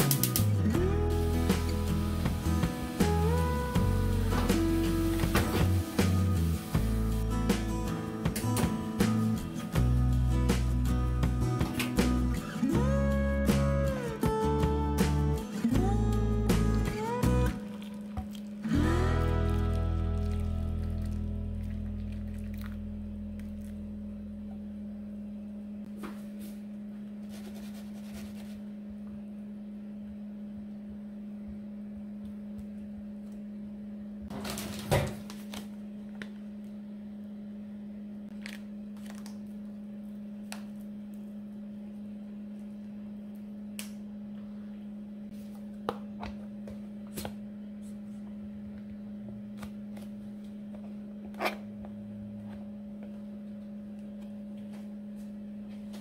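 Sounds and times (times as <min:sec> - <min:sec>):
steady low hum: 0:00.0 - 0:34.4, 0:35.1 - 0:56.0.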